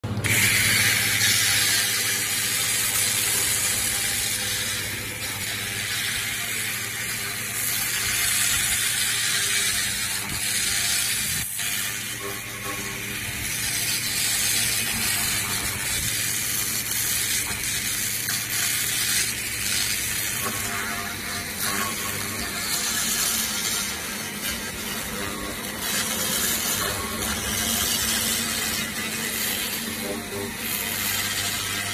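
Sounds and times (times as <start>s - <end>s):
laser crackling hiss on metal: 0.2s - 31.9s.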